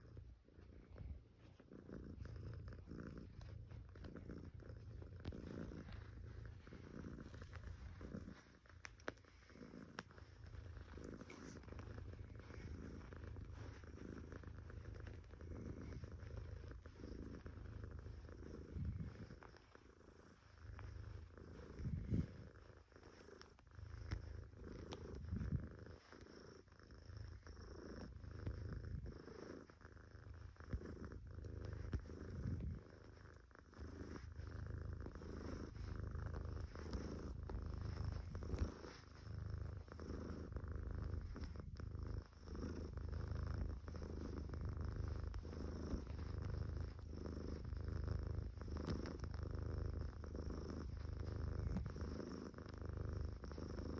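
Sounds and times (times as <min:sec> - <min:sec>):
cat purring: 0:00.0 - 0:53.9.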